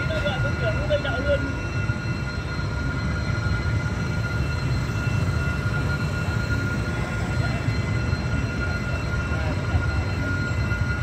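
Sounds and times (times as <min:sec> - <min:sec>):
continuous high-pitched tone: 0:00.0 - 0:11.0
low rumble of engines: 0:00.0 - 0:11.0.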